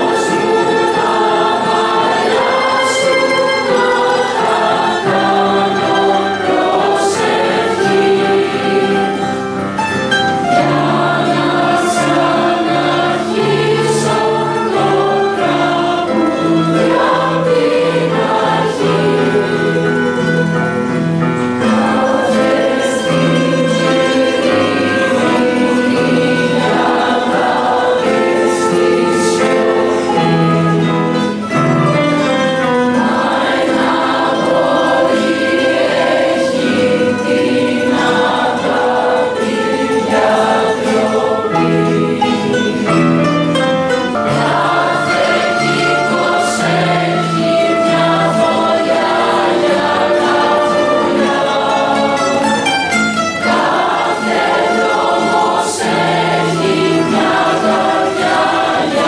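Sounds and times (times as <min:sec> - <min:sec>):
acoustic guitar: 0:00.0 - 0:59.0
youth choir singing: 0:00.0 - 0:59.0.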